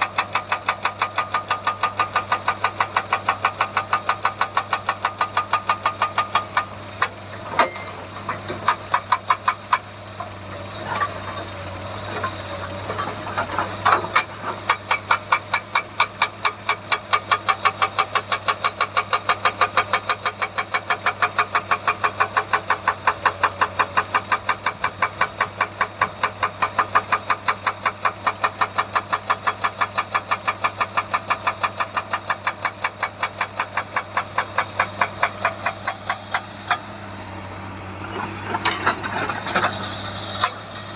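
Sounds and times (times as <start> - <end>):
hydraulic rock breaker hammering: 0.0 - 11.2, 12.1 - 37.2, 38.0 - 40.9
diesel engine running: 0.0 - 40.9.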